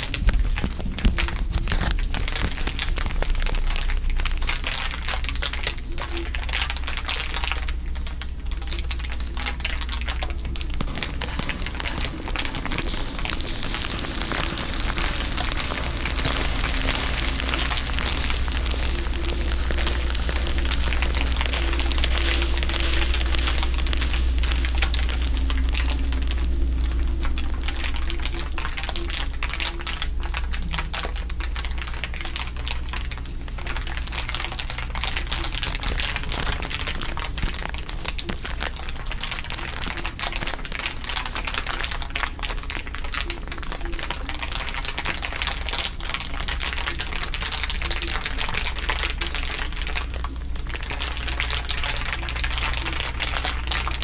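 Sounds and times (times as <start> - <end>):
dense crinkling crackle: 0.0 - 54.0
steady low hum: 0.0 - 54.0.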